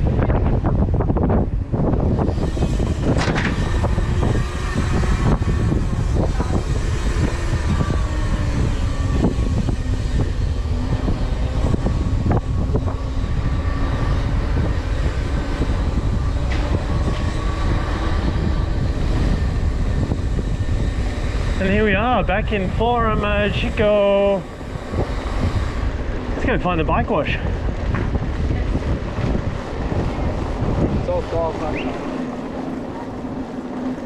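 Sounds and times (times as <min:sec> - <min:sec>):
bike tyre rumble: 0:00.0 - 0:34.0
wind noise: 0:00.0 - 0:34.0.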